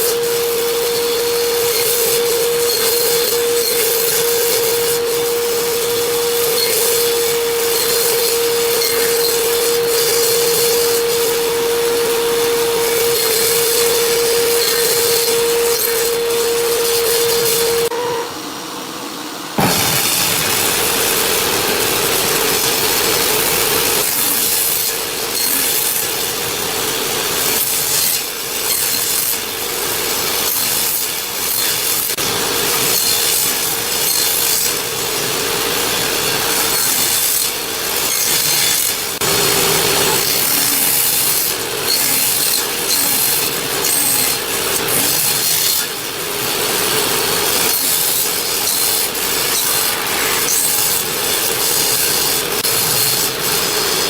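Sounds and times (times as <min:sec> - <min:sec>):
power tool rasping wood: 0:00.0 - 0:18.9, 0:19.6 - 0:54.0.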